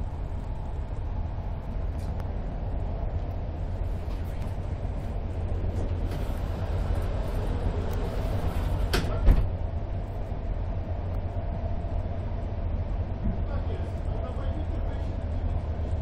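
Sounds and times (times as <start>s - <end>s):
train coach rumbling on rails: 0.0s - 16.0s.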